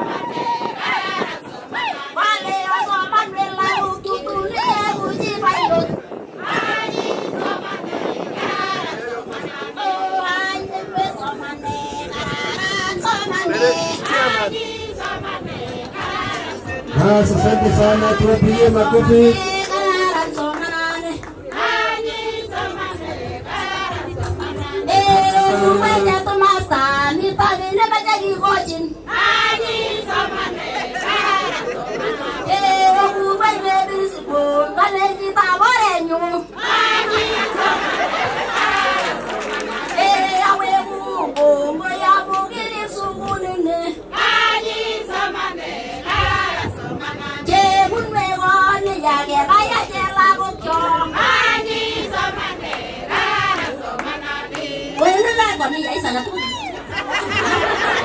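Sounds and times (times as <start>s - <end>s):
women singing in chorus: 0.0s - 58.0s.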